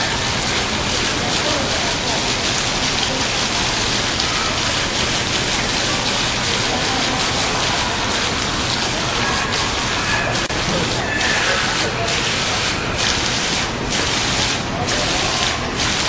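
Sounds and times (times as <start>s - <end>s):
water fountain splashing: 0.0s - 16.0s.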